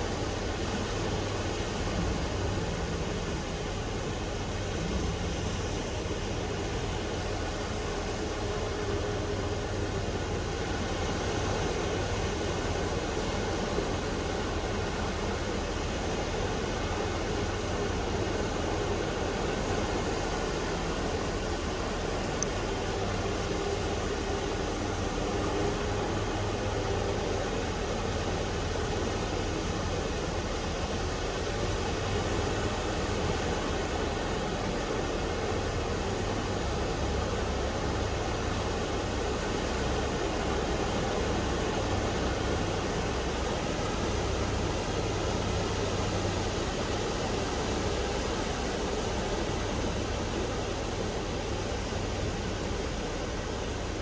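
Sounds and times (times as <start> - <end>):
small waves washing onto beach: 0.0 - 54.0.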